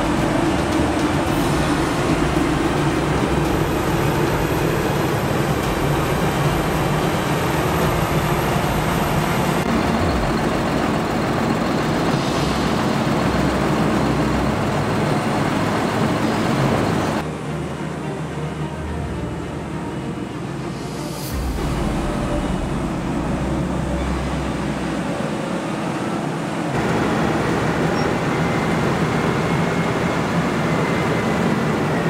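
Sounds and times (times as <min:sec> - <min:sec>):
tractor diesel engines running: 0:00.0 - 0:20.3, 0:21.6 - 0:32.0.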